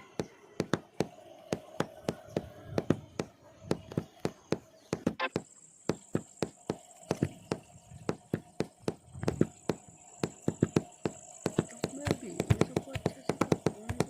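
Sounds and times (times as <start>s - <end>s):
faint high steady tone: 0.0s - 14.0s
sharp knocks: 0.1s - 14.0s.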